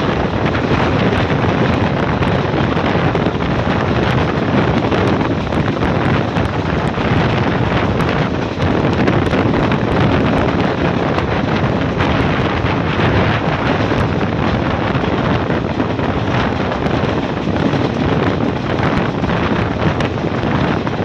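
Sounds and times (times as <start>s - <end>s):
train wheels on track: 0.0s - 21.0s
wind buffeting microphone: 0.0s - 21.0s.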